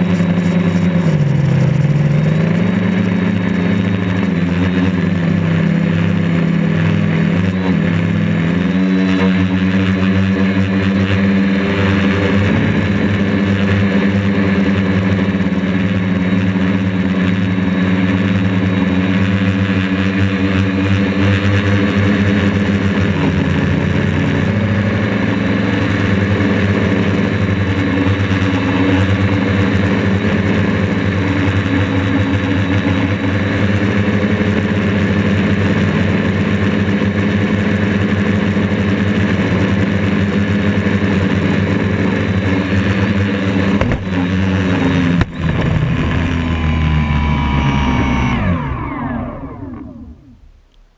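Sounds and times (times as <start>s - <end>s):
quadcopter motors buzzing: 0.0s - 50.6s.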